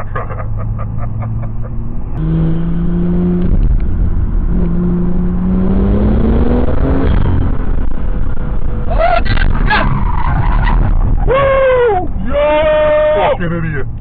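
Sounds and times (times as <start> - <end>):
car engine accelerating hard: 0.0 - 11.5.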